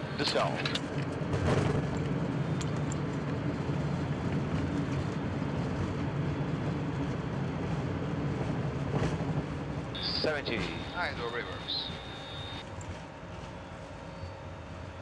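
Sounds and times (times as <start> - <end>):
airliner rolling on runway: 0.0 - 15.0
jet engines reverse thrust rumble: 0.0 - 15.0.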